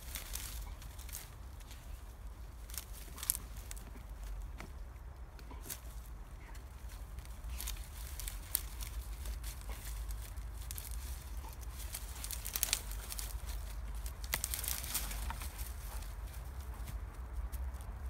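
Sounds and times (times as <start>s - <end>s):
dry grass and twigs crackling: 0.0s - 18.0s.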